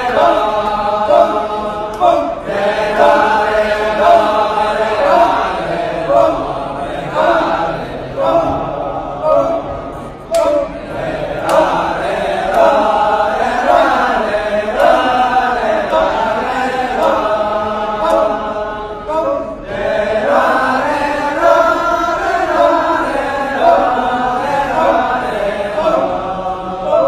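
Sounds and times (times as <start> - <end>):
chorus chanting in wavering tones: 0.0 - 27.0.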